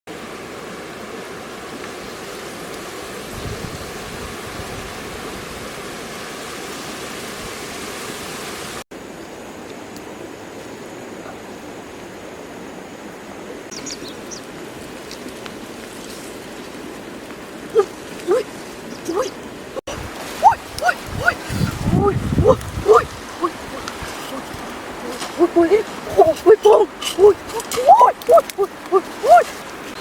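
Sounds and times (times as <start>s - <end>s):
rushing water: 0.1s - 30.0s.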